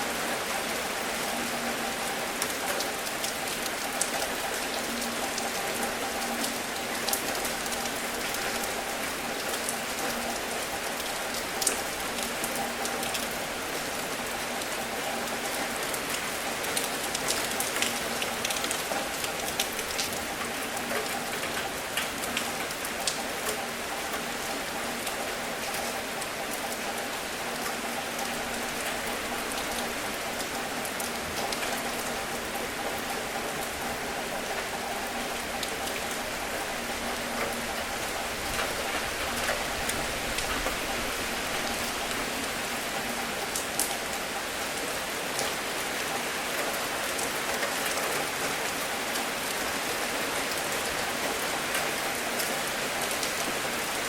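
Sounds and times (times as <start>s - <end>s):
raindrops ticking on surface: 0.2s - 54.0s.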